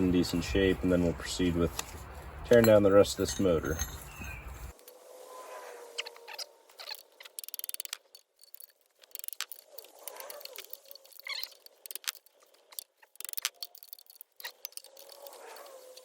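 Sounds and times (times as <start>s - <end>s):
hand tools and metal parts clinking: 0.0s - 4.8s, 6.7s - 16.0s.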